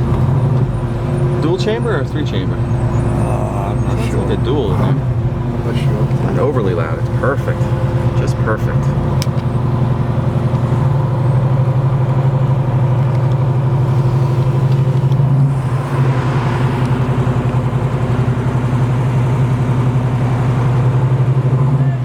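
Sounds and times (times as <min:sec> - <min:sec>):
car exhaust drone: 0:00.0 - 0:22.0.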